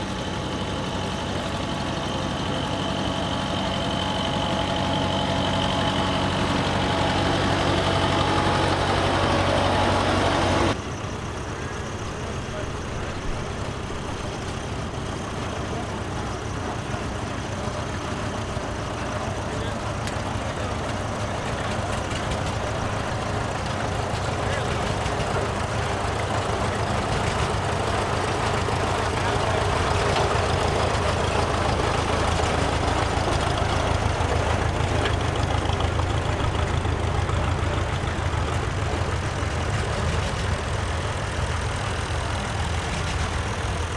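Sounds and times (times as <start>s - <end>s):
tractor engines running: 0.0s - 43.9s.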